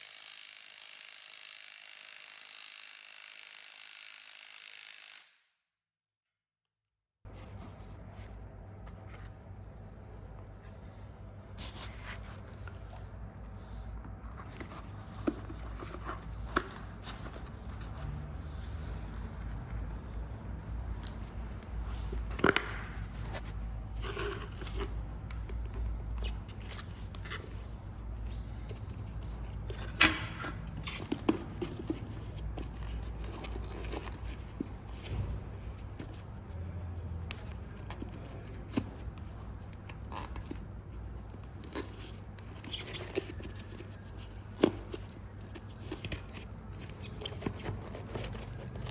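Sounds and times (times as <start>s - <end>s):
light clicks and scrapes: 7.3s - 48.9s.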